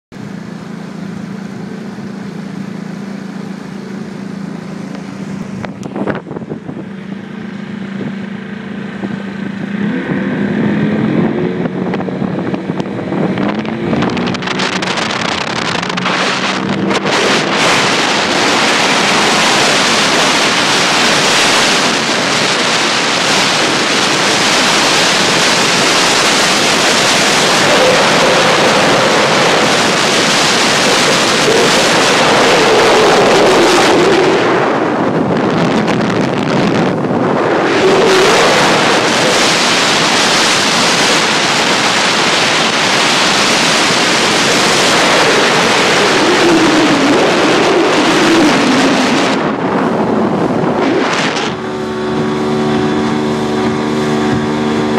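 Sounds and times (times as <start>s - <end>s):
motorboat engine humming: 0.1s - 54.9s
rushing water: 0.1s - 54.9s
wind on microphone: 4.6s - 54.9s.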